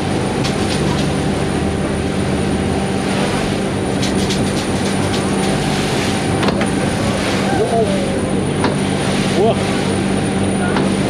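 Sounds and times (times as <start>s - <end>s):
boat diesel engine running: 0.0s - 11.0s
water and wind rushing: 0.0s - 11.0s.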